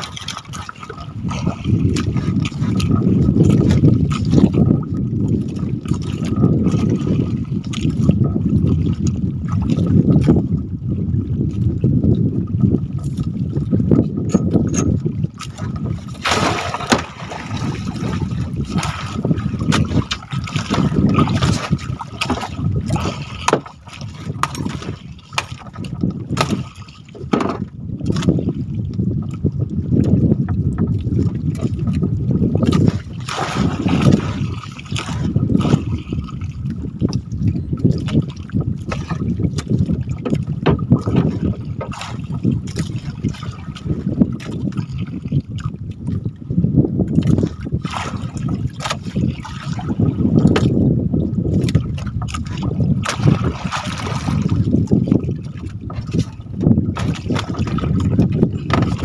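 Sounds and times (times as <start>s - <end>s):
water sloshing against boat: 0.0s - 59.0s.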